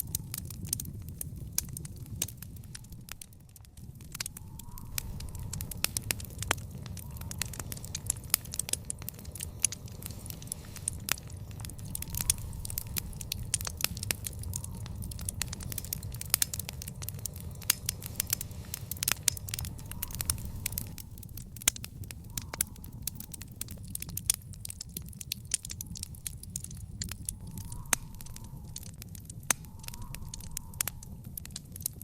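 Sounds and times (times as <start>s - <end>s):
low rumble: 0.0s - 31.8s
fire pops and snaps: 0.0s - 32.0s
wood fire crackling: 0.0s - 32.0s.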